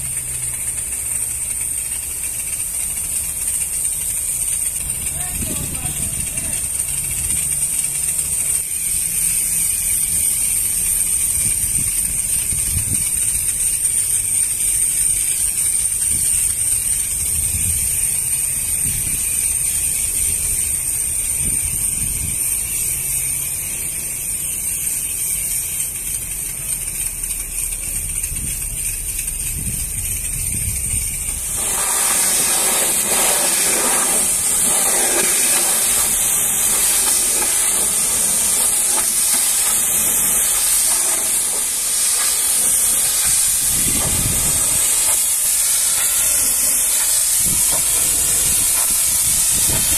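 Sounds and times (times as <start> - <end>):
pressure washer spray hissing: 0.0 - 49.9.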